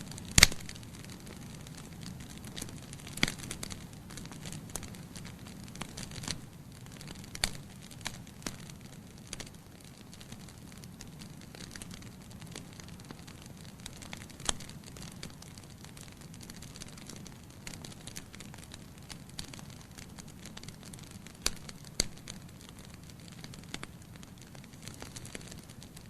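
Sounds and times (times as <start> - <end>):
logs burning crackling: 0.0 - 26.0.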